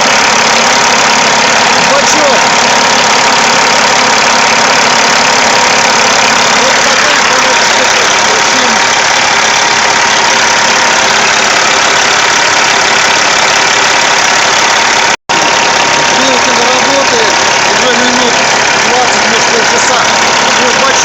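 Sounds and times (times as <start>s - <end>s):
diesel engine idling with whine: 0.0s - 21.0s.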